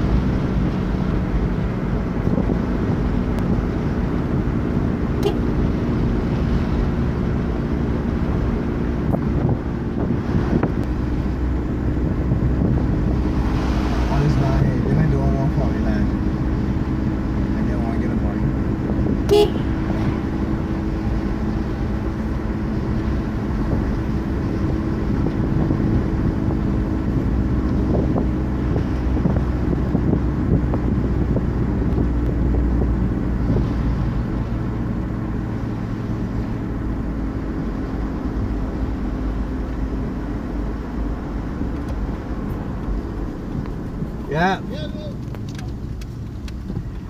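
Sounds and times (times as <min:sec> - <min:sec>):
car engine running: 0:00.0 - 0:47.0
tyre road noise: 0:00.0 - 0:47.0.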